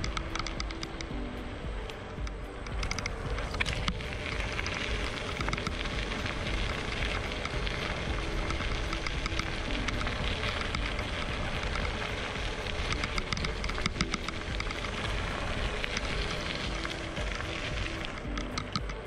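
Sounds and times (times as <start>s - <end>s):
scooter rattling: 0.0s - 19.0s
tyres crunching on gravel: 0.0s - 19.0s
wind noise: 0.0s - 19.0s.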